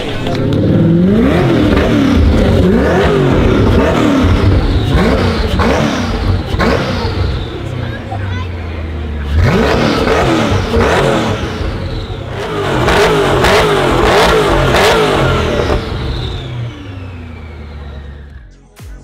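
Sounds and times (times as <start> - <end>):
car engine revving: 0.0 - 18.5.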